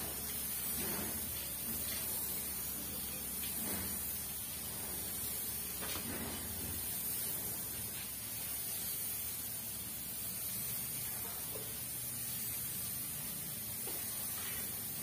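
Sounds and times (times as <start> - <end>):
paint spray gun hissing: 0.0 - 15.0.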